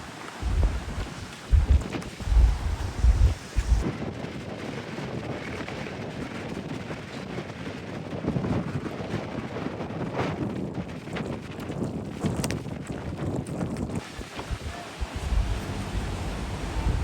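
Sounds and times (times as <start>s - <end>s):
strong gusty wind: 0.0s - 17.0s
wind buffeting on microphone: 0.0s - 17.0s.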